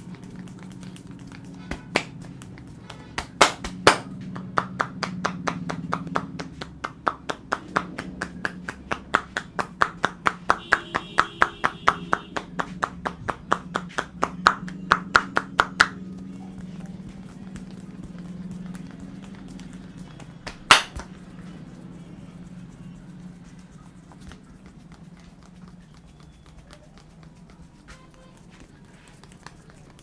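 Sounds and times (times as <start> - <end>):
hands slapping on head: 0.0 - 30.0
steady low hum: 0.0 - 30.0.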